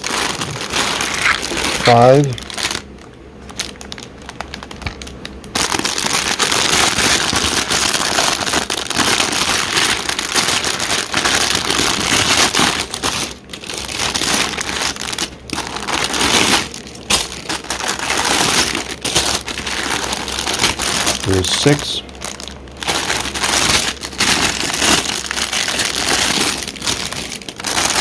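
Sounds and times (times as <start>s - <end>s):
plastic bags crinkling: 0.0s - 28.0s.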